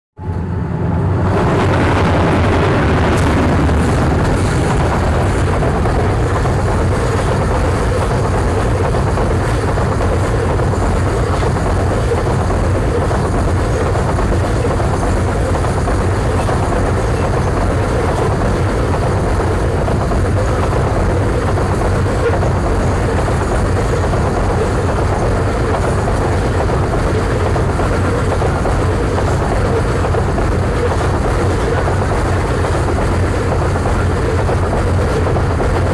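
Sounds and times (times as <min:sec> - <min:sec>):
freight train passing at speed: 0:00.2 - 0:35.9.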